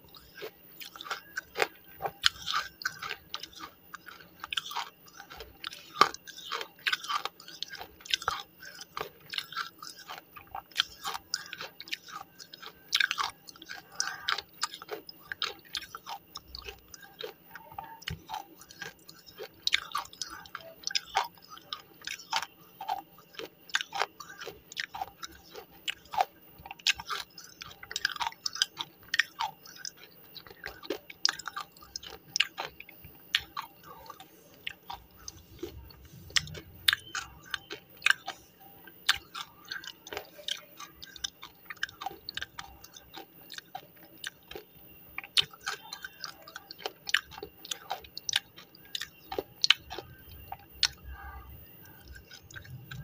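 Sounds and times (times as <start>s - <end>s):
chewing crunchy pieces: 0.0s - 53.0s.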